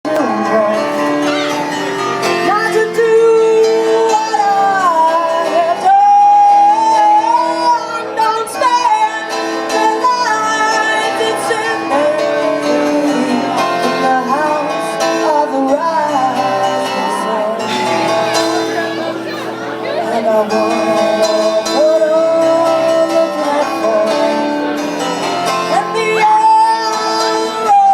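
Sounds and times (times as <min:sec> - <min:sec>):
guitar accompaniment: 0:00.1 - 0:27.9
person singing: 0:00.1 - 0:27.9.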